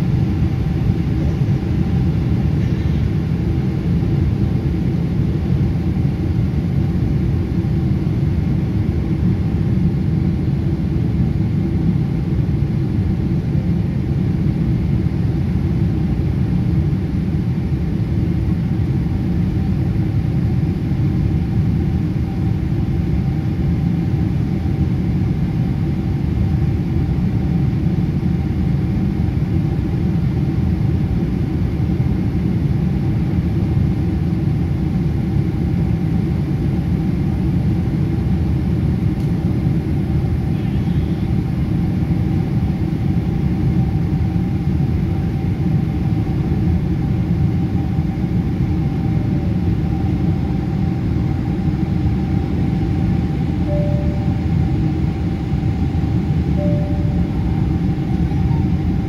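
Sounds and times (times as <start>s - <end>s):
faint steady hum: 0.0s - 59.0s
jet engine rumble in cabin: 0.0s - 59.0s.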